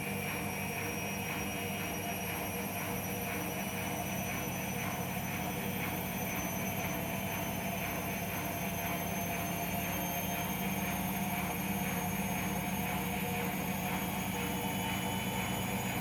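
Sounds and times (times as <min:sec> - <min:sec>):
drain pump humming: 0:01.6 - 0:16.0.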